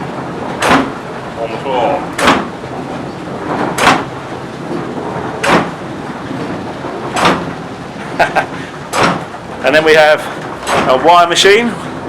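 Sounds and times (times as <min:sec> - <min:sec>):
heavy wooden knocking: 0:00.0 - 0:11.4
mill machinery rumbling: 0:00.0 - 0:12.0.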